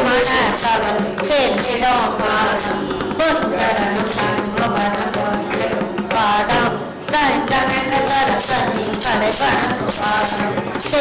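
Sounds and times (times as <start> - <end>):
hand drum: 0.0 - 11.0
women singing devotional song: 0.0 - 11.0.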